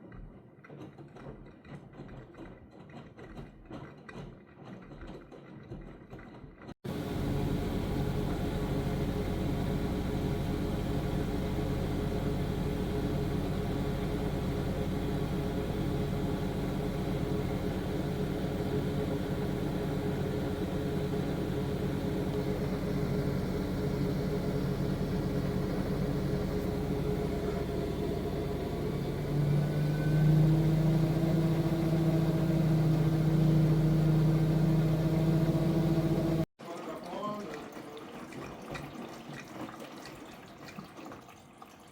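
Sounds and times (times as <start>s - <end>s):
washing machine motor hum: 6.8s - 41.9s.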